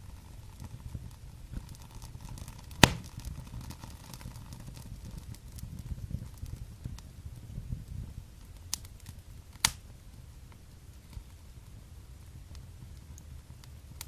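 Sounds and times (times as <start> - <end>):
fire crackling in fireplace: 0.0 - 14.0
sharp pops of fire: 0.1 - 14.0.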